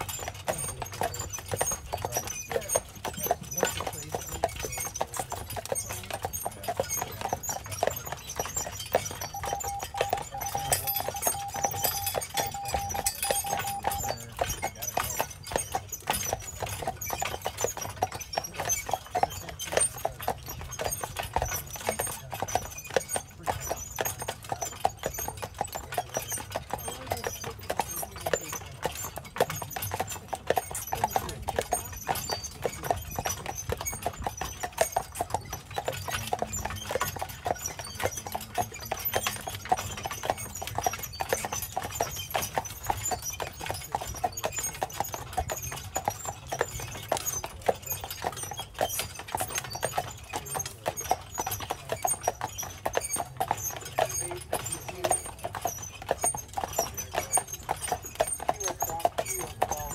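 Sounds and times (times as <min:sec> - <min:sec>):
hooves clip-clopping on dirt: 0:00.0 - 0:59.9.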